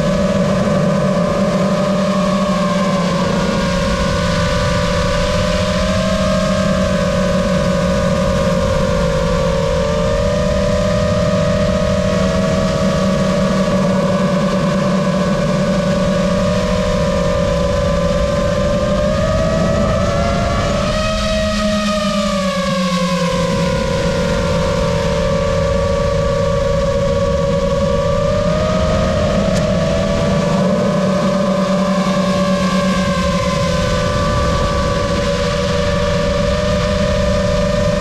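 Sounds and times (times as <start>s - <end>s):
drone motors whining: 0.0s - 38.0s.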